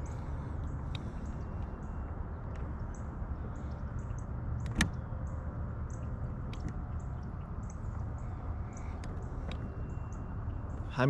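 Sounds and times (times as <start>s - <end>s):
faint bird chirps: 0.0s - 11.0s
steady low rumble: 0.0s - 11.0s.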